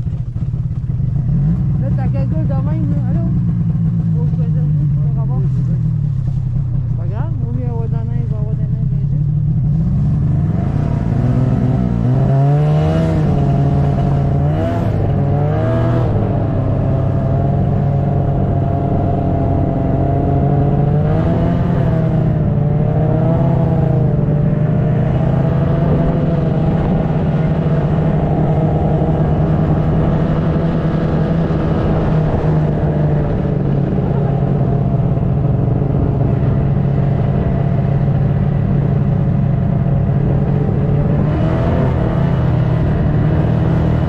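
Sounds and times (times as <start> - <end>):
snowmobile engine running: 0.0 - 44.0.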